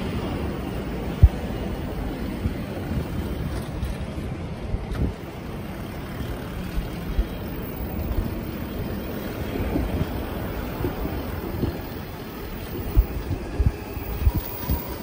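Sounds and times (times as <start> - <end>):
tyres rumbling on asphalt: 0.0 - 15.0
wind rushing over microphone: 0.0 - 15.0.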